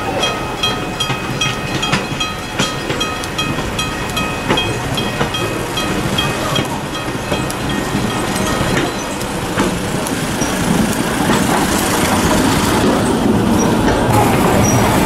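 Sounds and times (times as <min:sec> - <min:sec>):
rail car engine running: 0:00.0 - 0:15.0.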